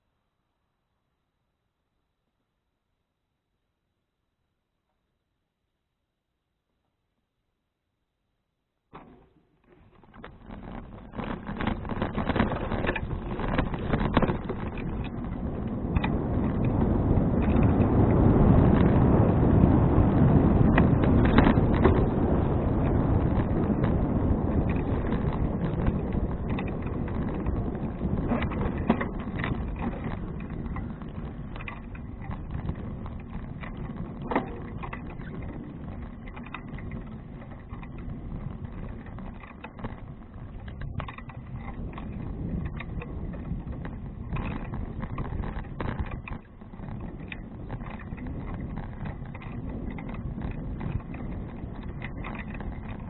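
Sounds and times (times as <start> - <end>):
bicycle tyres on road: 8.9 - 53.0
wind on microphone: 9.7 - 53.0.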